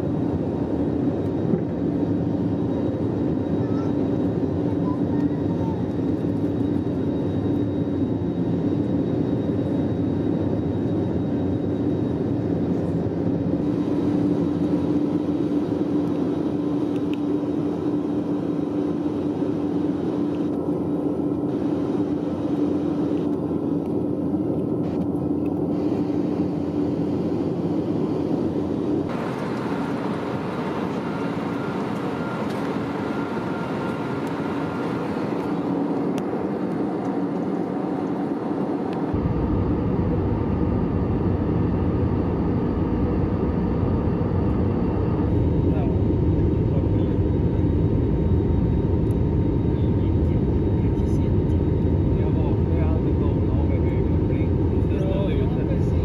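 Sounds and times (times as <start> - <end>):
aircraft cabin engine drone: 0.0 - 56.0
low hum: 8.0 - 55.0.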